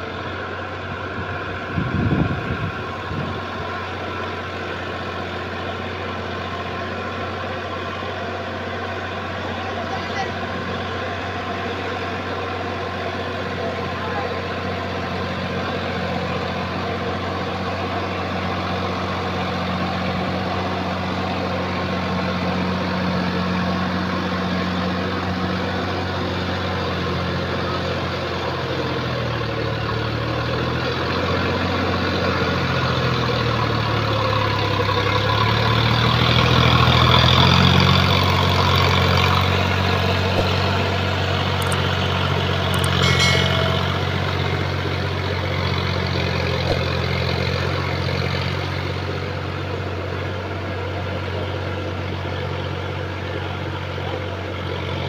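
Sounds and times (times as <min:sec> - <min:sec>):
tractor diesel engine labouring: 0:00.0 - 0:55.0.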